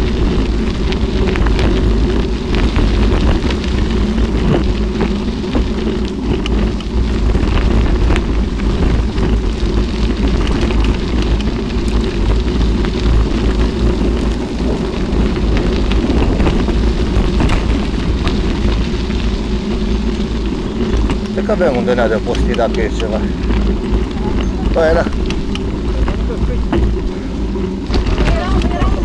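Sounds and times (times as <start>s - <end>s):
bike clicks and rattles: 0.0s - 29.0s
tyres rolling over gravel: 0.0s - 29.0s
wind buffeting microphone: 0.0s - 29.0s.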